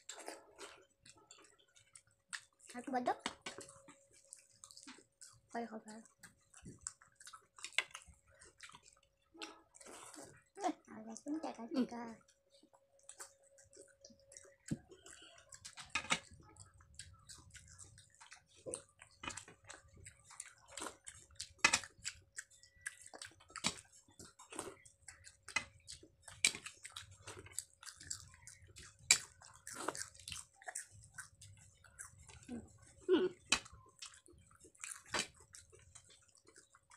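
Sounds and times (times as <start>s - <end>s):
chewing and lip smacks: 0.0s - 11.2s, 12.2s - 36.9s.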